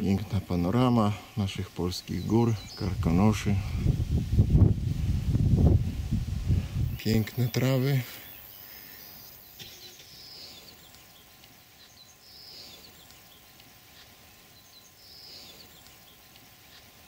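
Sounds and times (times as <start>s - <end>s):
small birds chirping: 0.0s - 4.2s, 4.9s - 17.0s.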